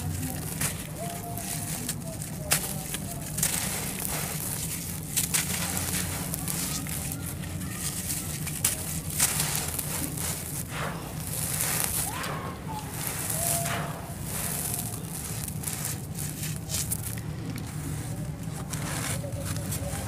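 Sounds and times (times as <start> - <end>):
cement chunks crushed by hand: 0.0 - 20.0
grit pouring onto sandy dirt: 0.0 - 20.0.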